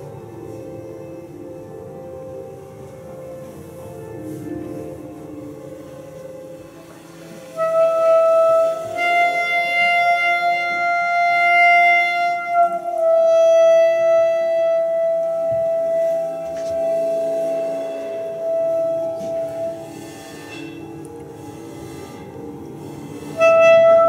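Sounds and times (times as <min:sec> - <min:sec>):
clarinet sustained notes: 0:00.0 - 0:24.0.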